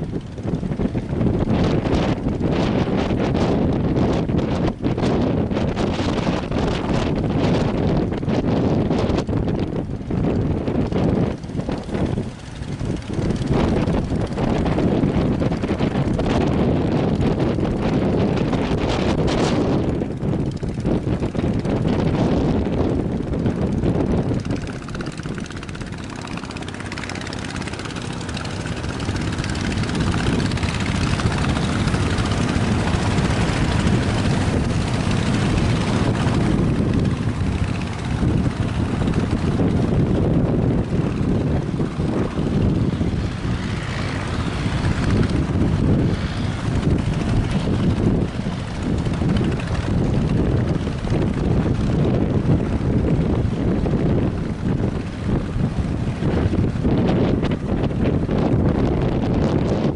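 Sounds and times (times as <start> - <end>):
strong wind on microphone: 0.0 - 59.9.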